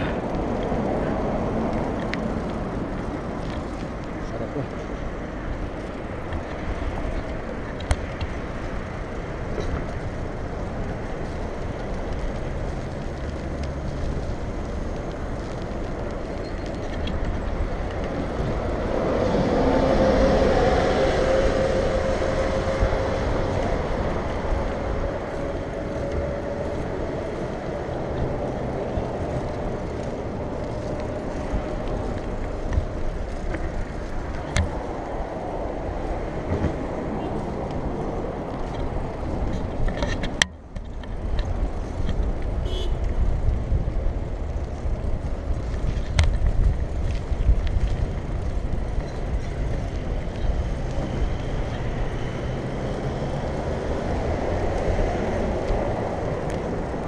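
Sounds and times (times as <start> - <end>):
road and traffic noise: 0.0 - 57.0
wind on microphone: 0.0 - 57.0.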